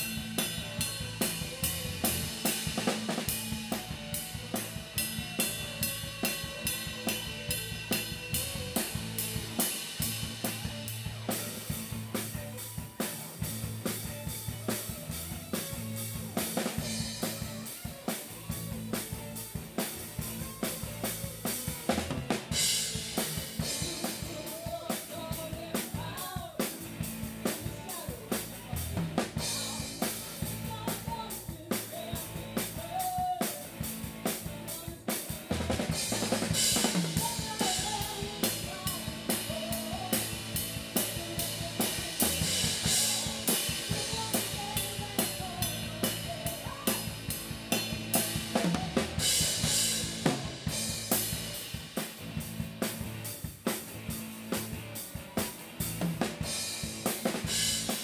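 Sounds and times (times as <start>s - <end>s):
drum kit beat: 0.0s - 58.0s
rock band playing: 0.0s - 58.0s.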